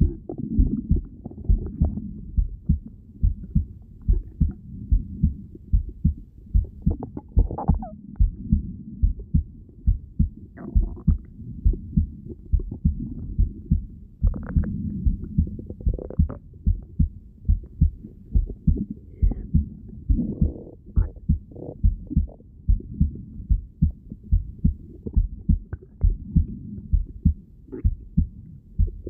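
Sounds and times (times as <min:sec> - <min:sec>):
heartbeat through stethoscope: 0:00.0 - 0:29.0.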